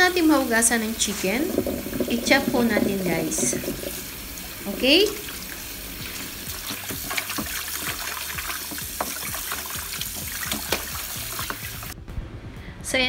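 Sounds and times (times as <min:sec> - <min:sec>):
tap water running into basin: 0:00.0 - 0:12.0
water splashing and sloshing: 0:00.2 - 0:12.0.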